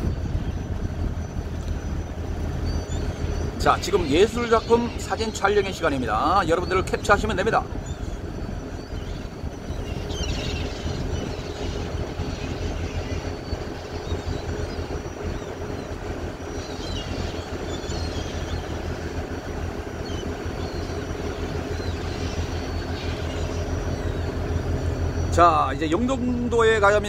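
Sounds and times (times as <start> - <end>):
ferry engine rumble: 0.0 - 27.0.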